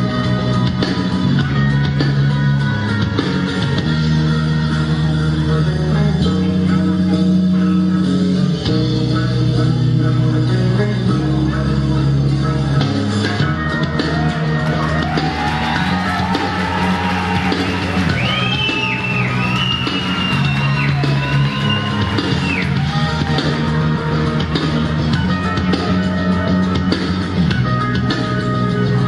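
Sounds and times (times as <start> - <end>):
rock music with guitar and drums: 0.0 - 29.0.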